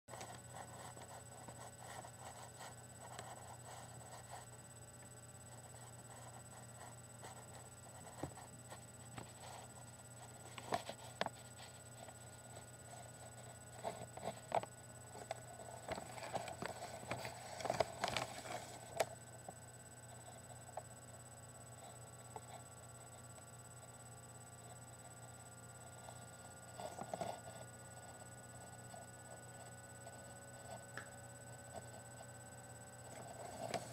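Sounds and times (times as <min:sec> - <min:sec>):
faint high whine: 0:00.1 - 0:33.9
steady low hum: 0:00.1 - 0:33.9.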